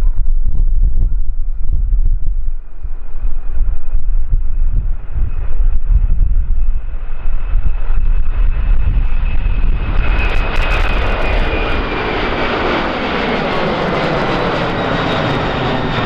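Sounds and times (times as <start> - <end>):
airliner engines roaring: 0.0 - 16.0
high engine whine: 0.0 - 16.0.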